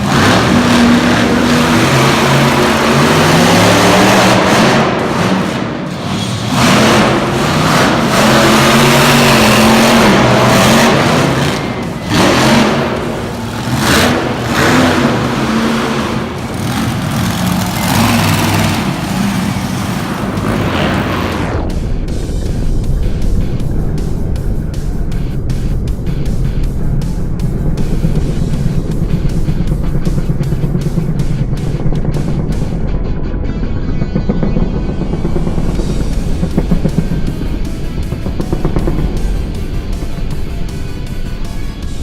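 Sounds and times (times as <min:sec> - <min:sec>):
monster truck engine revving: 0:00.0 - 0:42.0.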